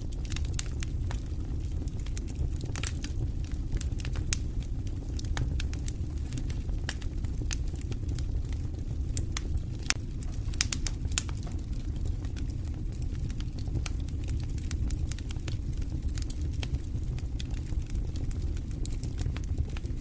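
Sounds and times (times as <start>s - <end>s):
fire crackling in a fireplace: 0.0s - 20.0s
low rumble of burning: 0.0s - 20.0s.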